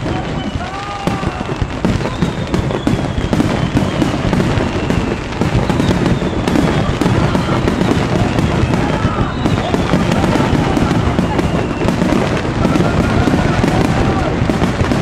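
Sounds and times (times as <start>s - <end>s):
firework whistles sliding down: 0.0s - 14.3s
fireworks bangs and crackles: 0.0s - 15.0s.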